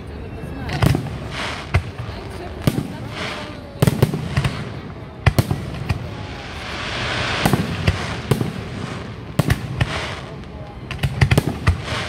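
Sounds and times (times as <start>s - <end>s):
fireworks bursting in sharp bangs: 0.6s - 12.0s
fireworks hiss: 0.8s - 12.0s.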